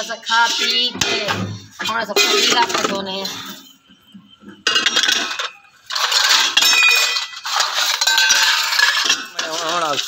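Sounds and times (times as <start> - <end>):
steel dishes clattering and scraping: 0.0 - 10.0.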